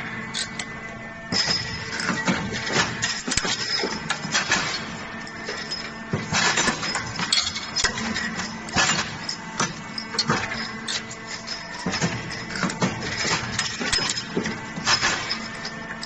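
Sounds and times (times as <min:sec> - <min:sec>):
metallic clanks of chain machine: 0:00.3 - 0:00.7, 0:01.3 - 0:16.0.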